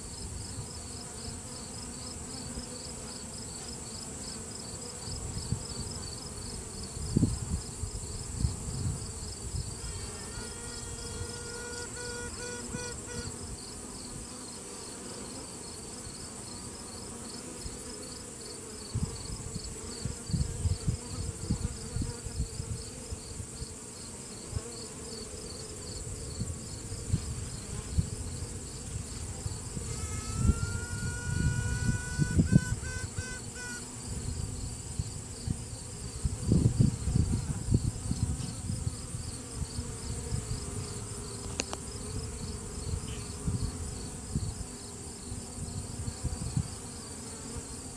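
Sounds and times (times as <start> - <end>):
queen bee piping: 0.0 - 47.9
bees buzzing: 0.1 - 47.9.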